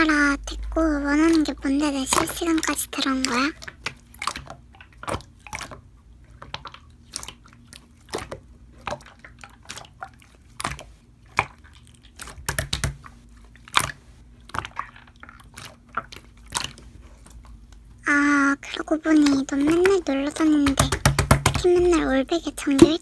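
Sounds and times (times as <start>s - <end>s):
slime squishing: 0.0s - 23.0s.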